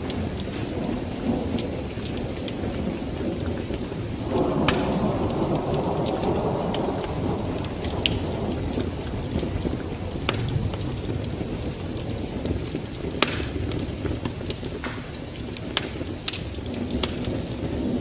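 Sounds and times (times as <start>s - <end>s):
low roll of thunder: 0.0s - 14.3s, 16.6s - 18.0s
rainstorm: 0.0s - 18.0s
wood fire crackling: 0.0s - 18.0s.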